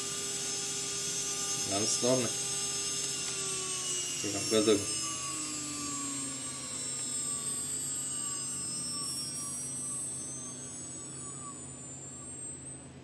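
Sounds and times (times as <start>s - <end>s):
spindle motor whine falling in pitch: 0.0s - 13.0s
steady low hum: 0.0s - 13.0s.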